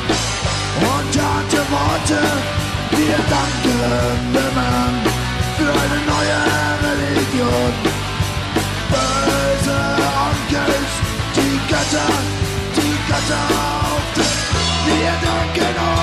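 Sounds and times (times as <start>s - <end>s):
bass guitar: 0.0s - 16.0s
distorted rhythm guitar: 0.0s - 16.0s
steady drum beat: 0.0s - 16.0s.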